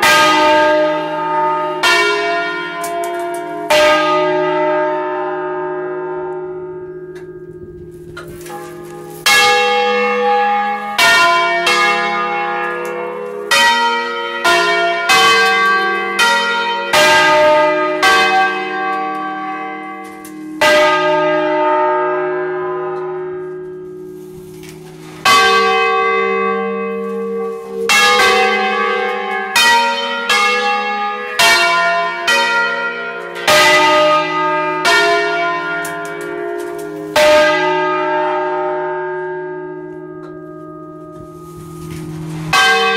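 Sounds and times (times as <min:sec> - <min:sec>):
church bells pealing: 0:00.0 - 0:42.9.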